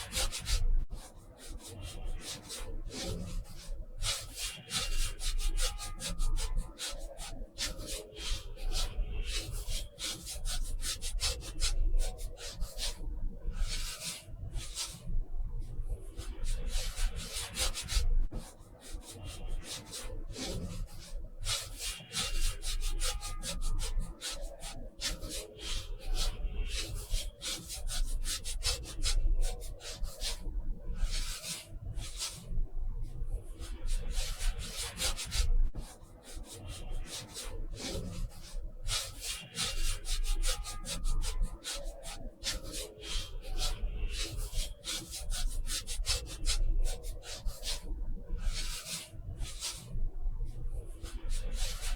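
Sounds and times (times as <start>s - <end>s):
scratchy strokes on paper: 0.0s - 51.9s.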